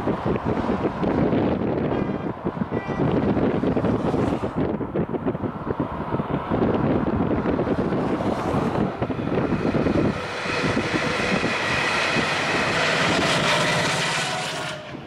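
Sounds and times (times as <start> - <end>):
diesel locomotive whine: 0.0 - 15.0
wind buffeting microphone: 0.0 - 15.0.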